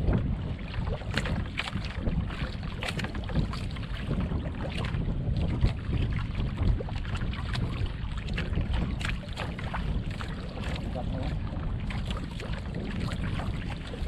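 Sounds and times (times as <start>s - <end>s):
water slapping against boat: 0.0s - 14.0s
wind rumbling on microphone: 0.0s - 14.0s.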